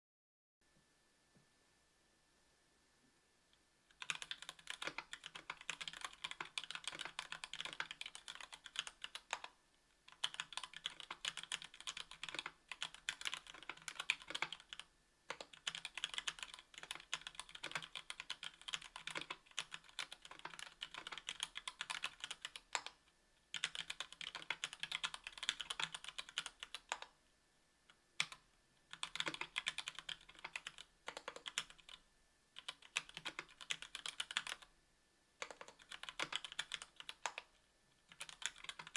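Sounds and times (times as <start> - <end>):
mechanical keyboard typing: 3.9 - 27.1, 28.2 - 32.0, 32.6 - 34.7, 35.4 - 38.9.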